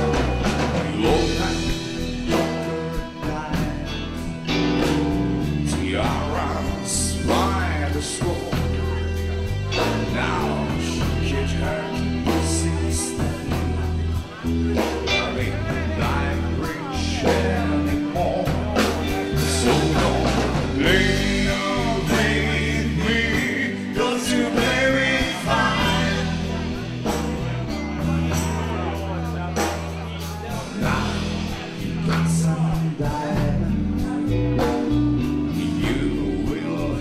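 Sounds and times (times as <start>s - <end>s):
bass: 0.0s - 37.0s
drums: 0.0s - 37.0s
electric guitar: 0.0s - 37.0s.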